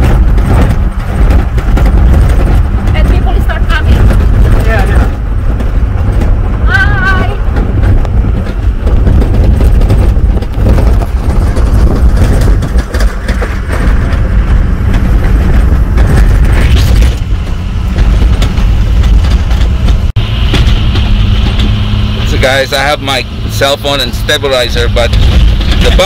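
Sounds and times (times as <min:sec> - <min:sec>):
car rattling over bumps: 0:00.0 - 0:26.0
engine and tyres rumbling: 0:00.0 - 0:26.0.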